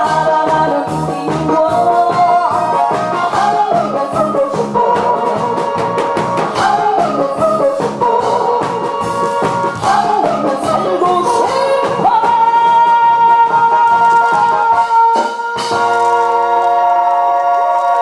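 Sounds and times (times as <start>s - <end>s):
woman singing into microphone: 0.0s - 5.8s, 6.6s - 15.8s
instrumental music with drum beat: 0.0s - 18.0s.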